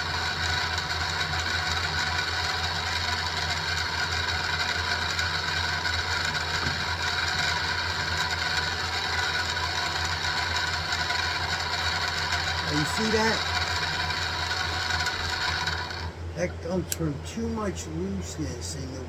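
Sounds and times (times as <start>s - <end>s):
milling machine cutting steel: 0.0s - 16.3s.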